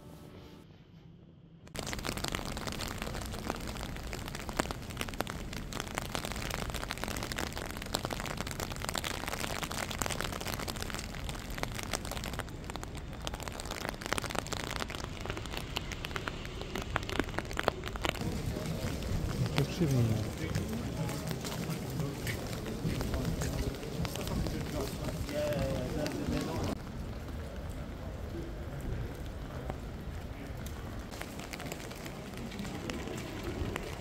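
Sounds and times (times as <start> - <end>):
rain on a wet street: 1.7 - 34.0.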